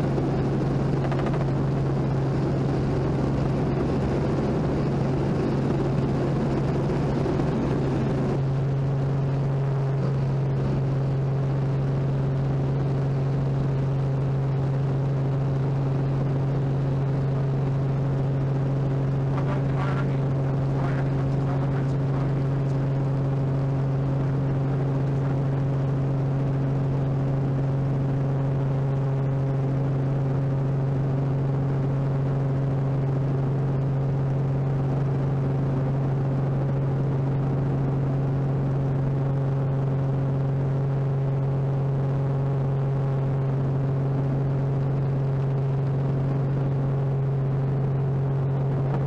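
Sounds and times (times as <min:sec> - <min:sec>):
helicopter engine and rotors drone: 0:00.0 - 0:49.0.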